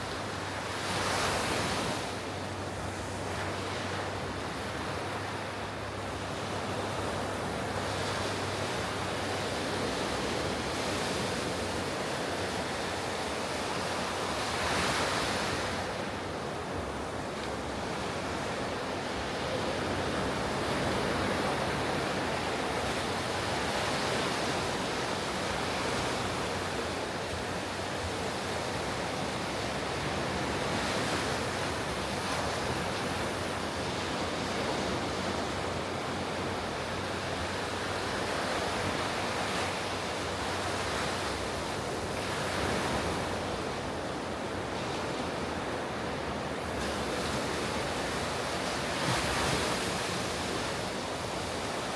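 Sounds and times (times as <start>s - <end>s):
waves breaking on a beach: 0.0s - 51.9s.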